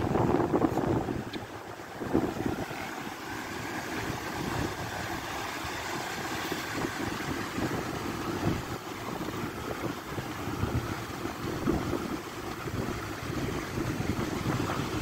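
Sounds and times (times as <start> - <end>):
surf washing up shore: 0.0 - 15.0
wind buffeting microphone: 0.0 - 15.0.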